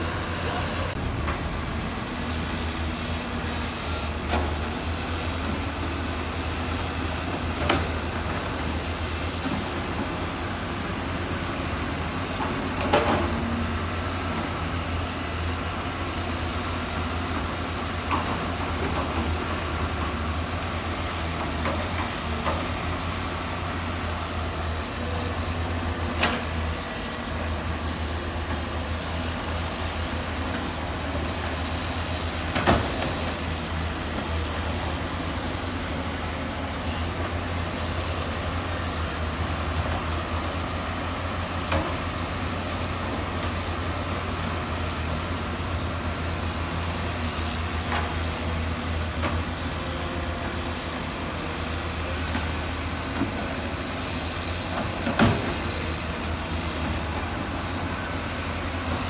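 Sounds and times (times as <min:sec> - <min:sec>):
heavy diesel machinery droning: 0:00.0 - 0:59.0.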